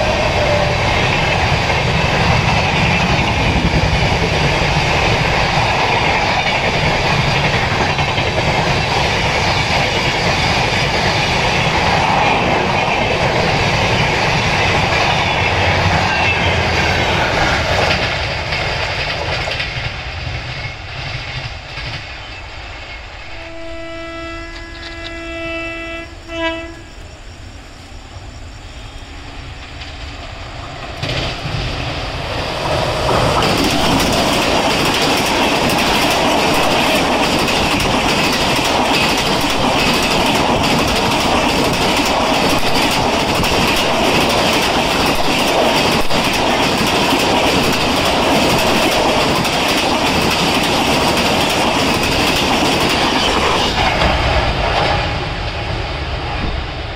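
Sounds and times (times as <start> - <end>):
train passing at speed: 0.0 - 56.9.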